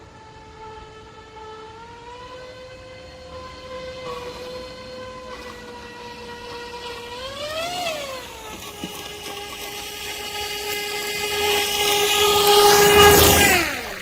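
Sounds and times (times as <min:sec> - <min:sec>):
high-pitched motor and propeller whine: 0:00.0 - 0:14.0.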